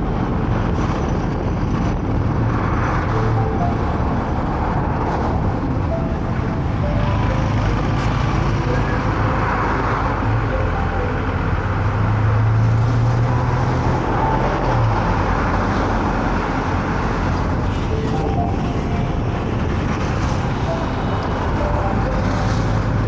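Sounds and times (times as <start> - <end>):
car engine and tyre noise: 0.0 - 23.0
low drone: 0.0 - 23.0.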